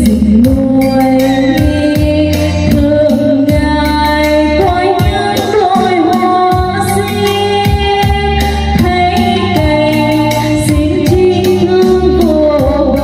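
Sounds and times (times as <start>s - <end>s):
backing track with bass beat: 0.0s - 13.0s
woman singing karaoke: 0.0s - 13.0s.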